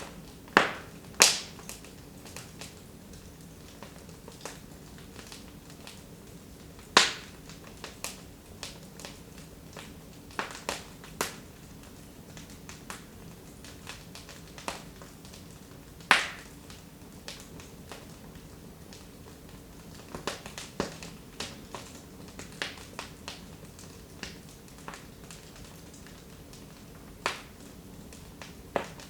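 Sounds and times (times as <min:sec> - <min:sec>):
faint steady hiss: 0:00.0 - 0:29.0
wood fire crackling: 0:00.0 - 0:29.0.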